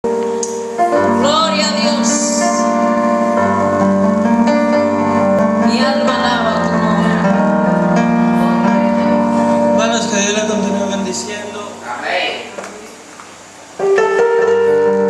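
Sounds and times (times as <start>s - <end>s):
keyboard held chords: 0.0s - 11.8s, 13.8s - 15.0s.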